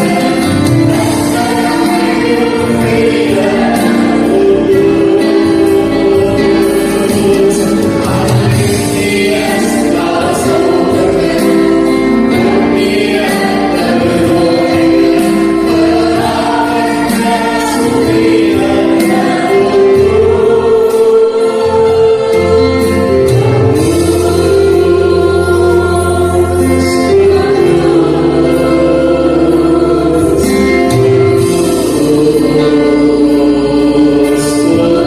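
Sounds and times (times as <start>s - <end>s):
choir singing a hymn: 0.0s - 35.0s
instrumental backing with bass: 0.0s - 35.0s.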